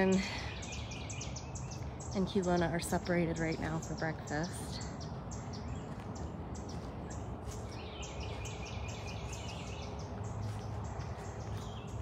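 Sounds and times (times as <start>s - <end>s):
high chirping calls: 0.0s - 12.0s
steady low rumble: 0.0s - 12.0s.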